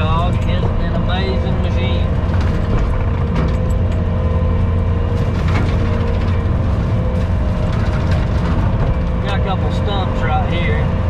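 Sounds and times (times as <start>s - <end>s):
skid steer with rotary cutter mowing: 0.0s - 11.0s.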